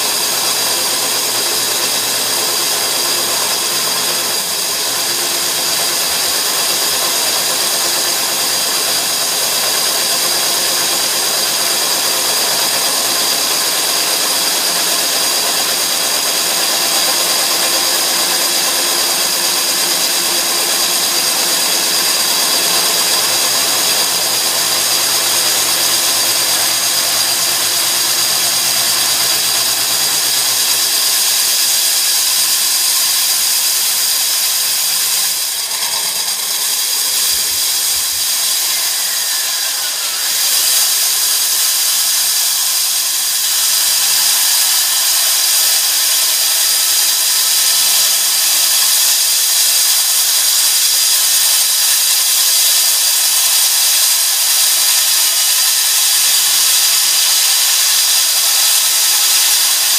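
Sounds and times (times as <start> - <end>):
core drill cutting into concrete: 0.0 - 59.9
water vacuum extracting water: 0.0 - 59.9.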